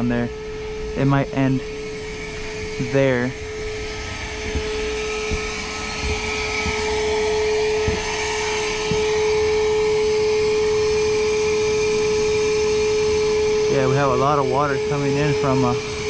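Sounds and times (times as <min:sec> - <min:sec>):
wet dry vacuum whining: 0:00.0 - 0:16.0.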